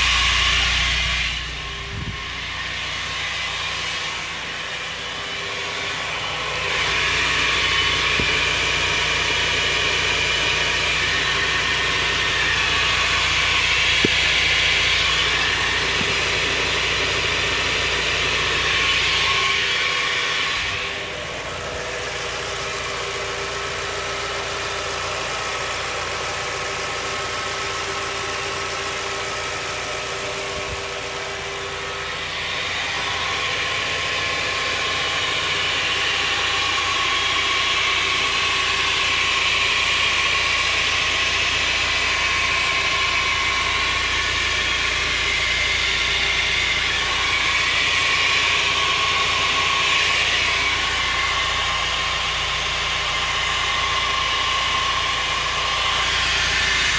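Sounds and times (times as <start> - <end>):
car drivetrain humming with tone: 0.0 - 56.9.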